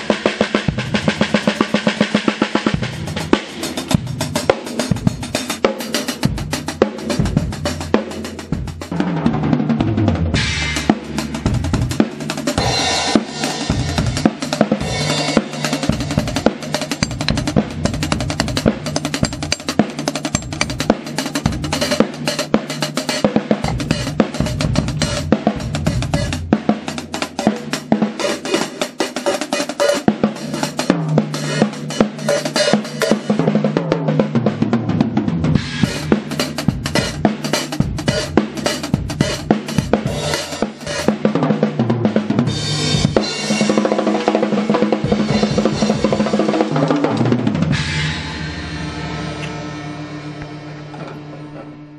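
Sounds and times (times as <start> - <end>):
drum kit solo: 0.0 - 51.9.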